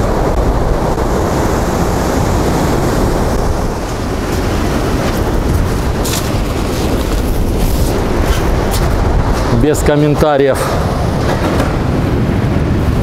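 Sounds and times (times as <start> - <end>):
storm waves breaking: 0.0 - 13.0
wind buffeting microphone: 0.0 - 13.0.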